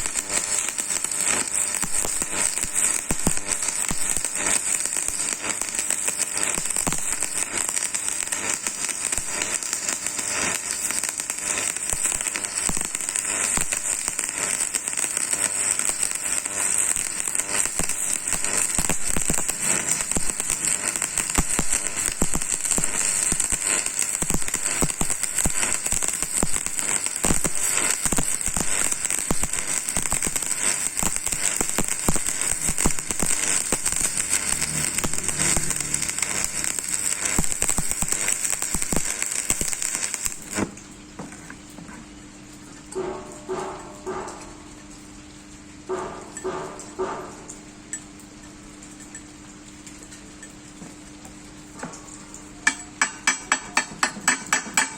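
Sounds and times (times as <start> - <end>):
welding spits and pops: 0.0 - 42.1, 42.8 - 45.2, 45.8 - 54.9
arc welding crackling: 0.0 - 54.9.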